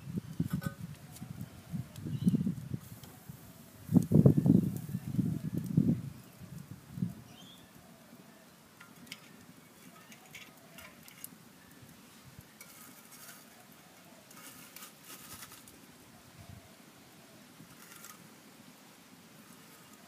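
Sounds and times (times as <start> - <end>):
faint hiss: 0.0 - 20.0
wood coals crackling: 0.0 - 20.0.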